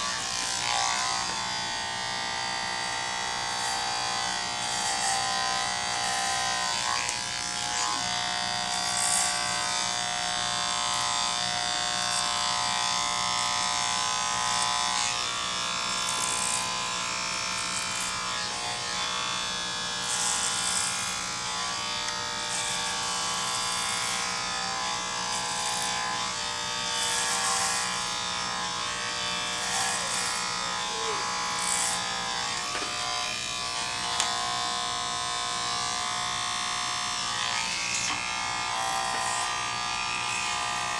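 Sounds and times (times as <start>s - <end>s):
electric hair clippers: 0.0s - 40.9s.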